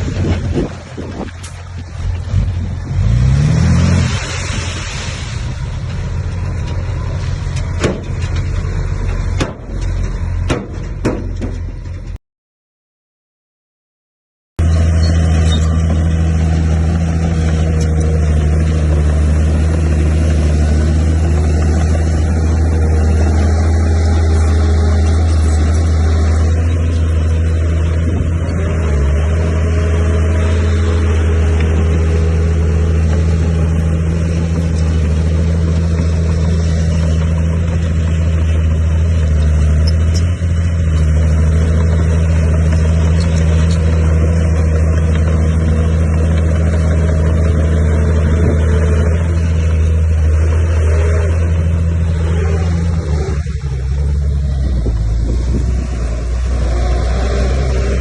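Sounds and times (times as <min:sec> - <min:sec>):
heavy diesel engine droning: 0:00.0 - 0:12.2, 0:14.6 - 0:58.0.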